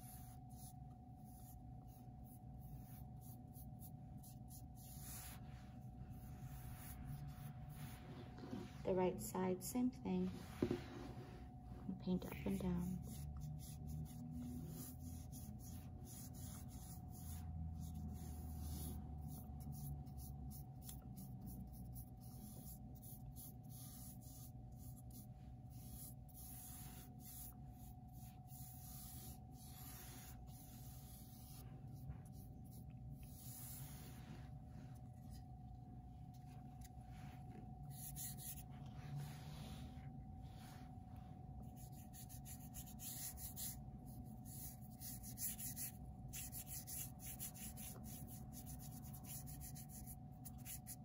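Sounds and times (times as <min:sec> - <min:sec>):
paintbrush scratching on canvas: 0:00.0 - 0:08.9, 0:10.2 - 0:35.4, 0:36.4 - 0:40.9, 0:41.6 - 0:51.0
faint steady hum: 0:00.0 - 0:51.0.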